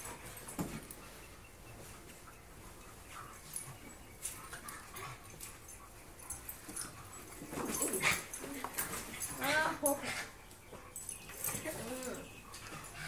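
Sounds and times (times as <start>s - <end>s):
dogs scuffling: 0.0s - 13.0s
dogs whining: 0.0s - 13.0s.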